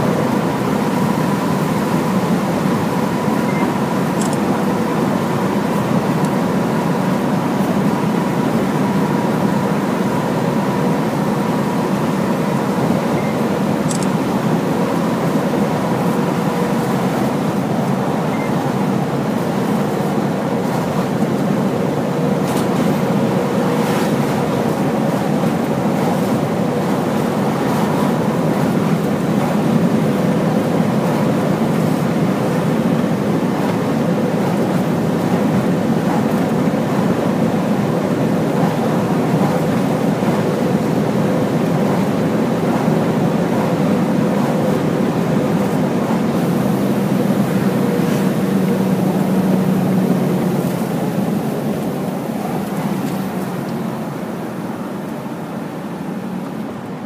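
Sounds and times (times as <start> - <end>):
road and tyre noise: 0.0 - 57.0
truck engine drone: 0.0 - 57.0.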